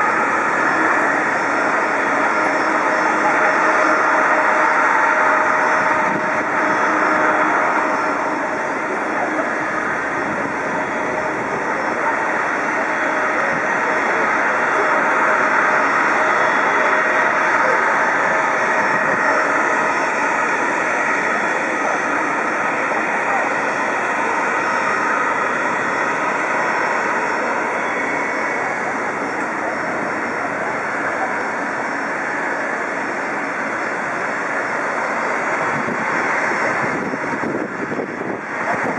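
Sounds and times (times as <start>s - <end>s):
faint jet engine whine: 0.0s - 38.9s
jet engines rushing hum: 0.0s - 38.9s.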